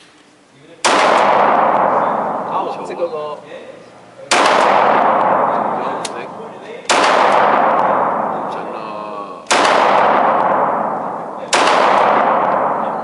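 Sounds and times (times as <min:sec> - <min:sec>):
pistol shots echoing indoors: 0:00.8 - 0:03.1, 0:04.3 - 0:13.0.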